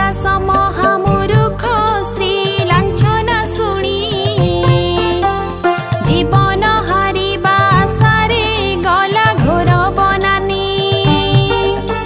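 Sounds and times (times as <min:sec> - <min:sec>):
steady low drum beat: 0:00.0 - 0:11.8.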